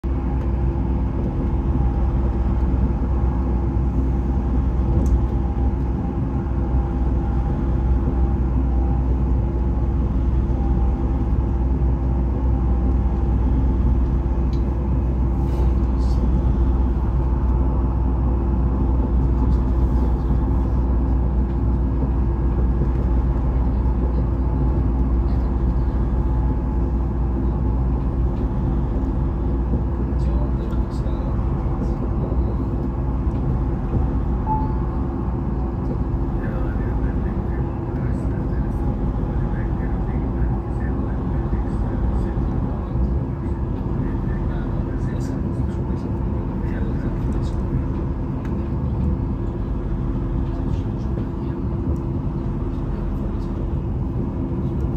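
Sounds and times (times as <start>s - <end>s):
steady hum: 0.0s - 54.9s
train wheels rumbling: 0.0s - 54.9s.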